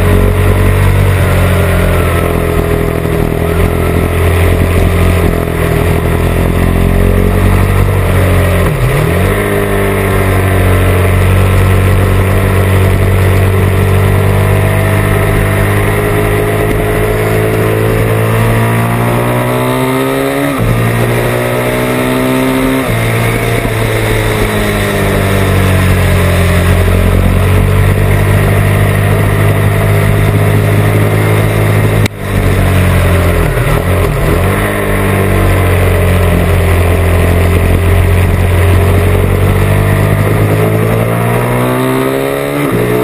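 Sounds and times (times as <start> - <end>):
motorcycle engine at speed: 0.0 - 43.0.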